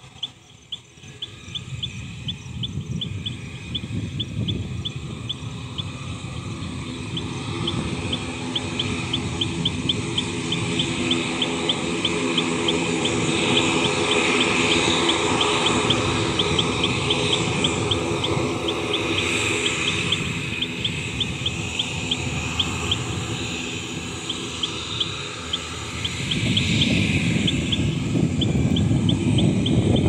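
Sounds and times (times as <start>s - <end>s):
aircraft engine noise: 0.0s - 30.0s.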